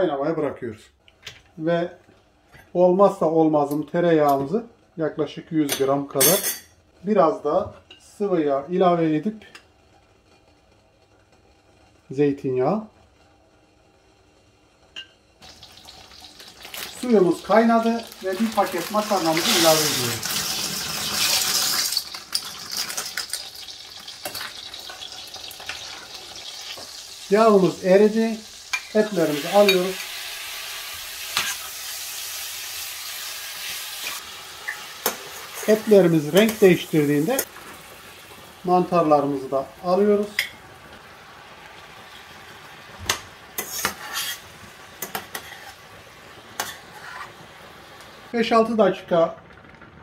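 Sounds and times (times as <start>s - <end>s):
faint sizzle in frying pan: 1.3s - 50.0s
pasta hissing into boiling water: 9.7s - 50.0s.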